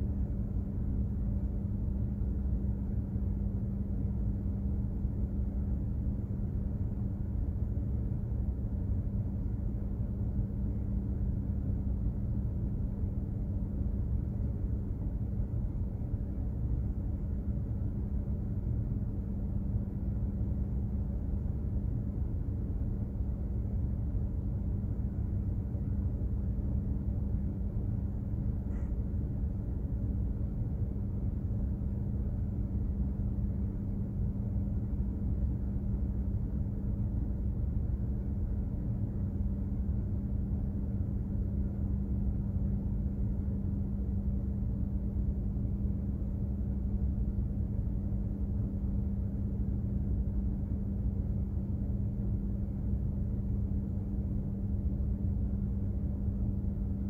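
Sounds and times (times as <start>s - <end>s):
constant hum: 0.0s - 57.0s.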